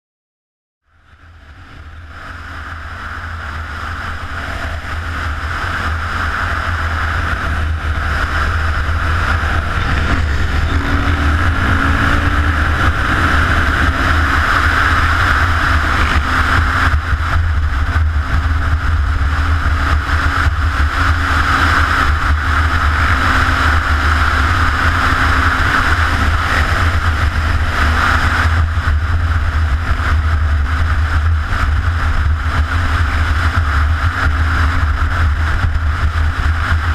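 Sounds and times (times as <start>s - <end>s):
motorcycle engine running: 0.8s - 36.9s
wind noise on microphone: 1.1s - 36.9s.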